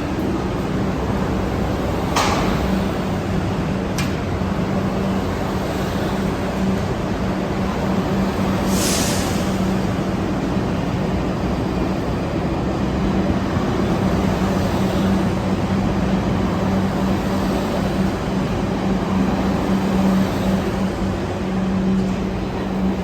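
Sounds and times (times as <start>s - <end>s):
subway train running: 0.0s - 23.0s.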